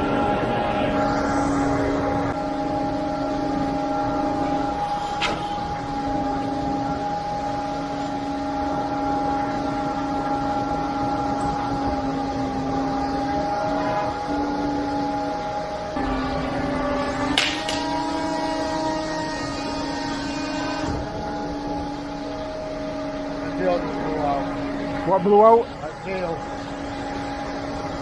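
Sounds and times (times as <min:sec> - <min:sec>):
pump truck engine hum: 0:00.0 - 0:28.0.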